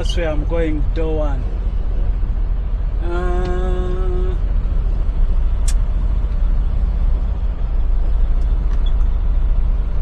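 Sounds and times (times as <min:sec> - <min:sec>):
diesel truck engine rumble: 0:00.0 - 0:10.0.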